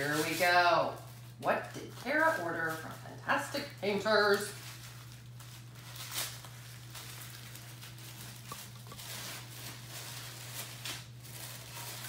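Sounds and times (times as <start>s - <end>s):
packaging rustling and crinkling: 0.0s - 12.0s
steady low hum: 0.0s - 12.0s.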